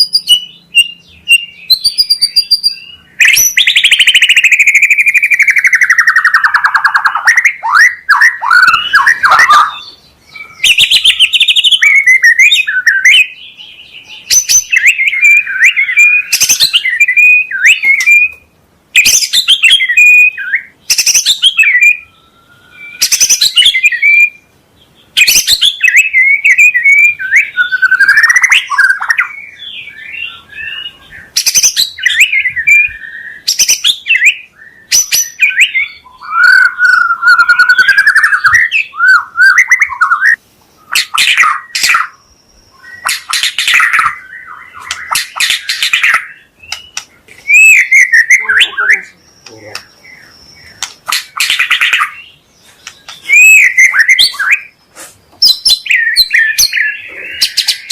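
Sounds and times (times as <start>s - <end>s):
bird singing varied song: 0.0s - 57.9s.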